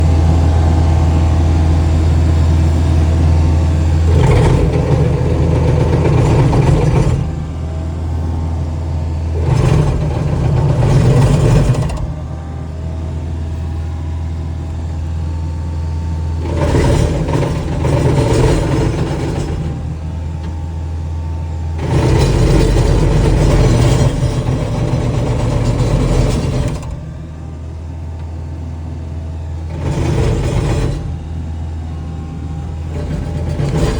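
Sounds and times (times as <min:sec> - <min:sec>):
hydraulic brush cutter cutting wood: 0:00.0 - 0:14.0, 0:14.6 - 0:20.7, 0:21.8 - 0:27.3, 0:29.6 - 0:33.9
skid steer engine running: 0:00.0 - 0:33.9.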